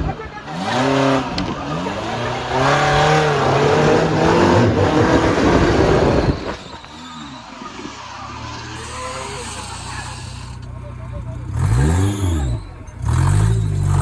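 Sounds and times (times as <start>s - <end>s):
off-road engine revving: 0.0s - 14.0s.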